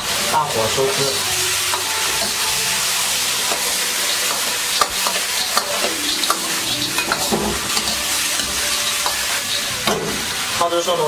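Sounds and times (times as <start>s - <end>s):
food sizzling in a wok: 0.0s - 11.0s
metal ladle scraping a wok: 1.1s - 10.5s.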